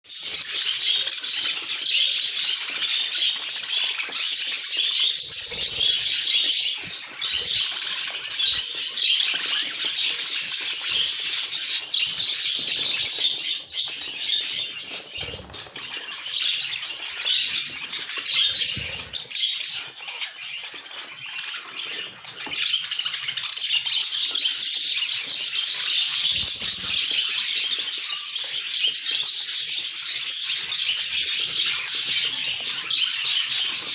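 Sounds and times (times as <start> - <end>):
budgerigars chattering and chirping: 0.1 - 33.9.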